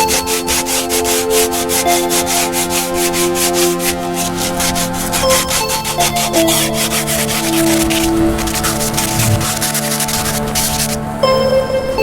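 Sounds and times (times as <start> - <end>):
sanding on a boat hull: 0.0 - 11.5
background music with sustained tones: 0.0 - 12.0.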